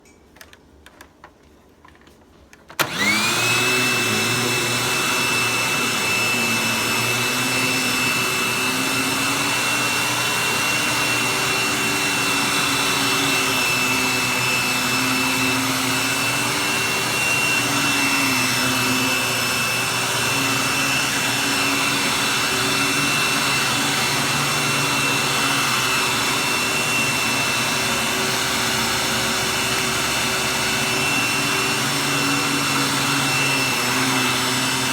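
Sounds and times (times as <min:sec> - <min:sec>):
vacuum cleaner motor whine: 0:02.8 - 0:34.9.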